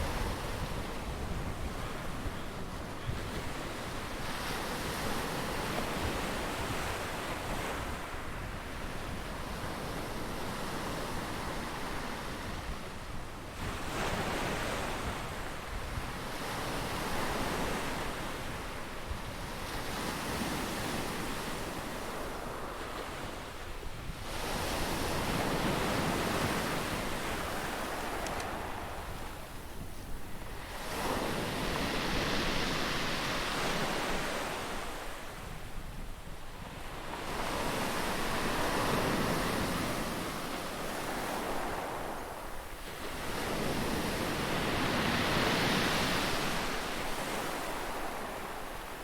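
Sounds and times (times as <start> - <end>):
waves breaking and washing in: 0.0 - 49.0.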